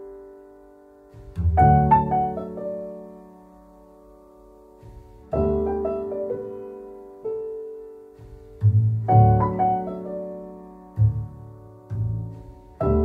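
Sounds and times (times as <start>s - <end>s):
piano chords ringing out: 0.0s - 13.0s.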